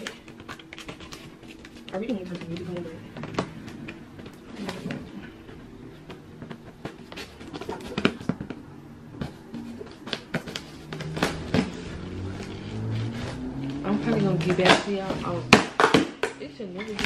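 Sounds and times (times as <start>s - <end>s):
faint music: 0.0s - 17.0s.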